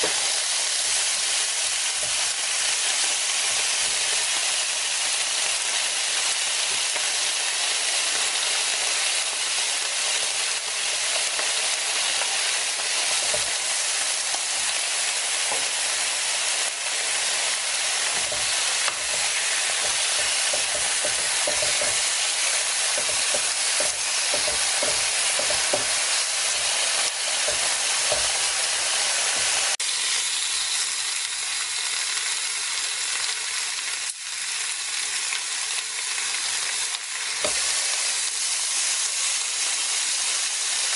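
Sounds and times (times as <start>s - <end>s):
meat sizzling on a grill plate: 0.0s - 40.9s.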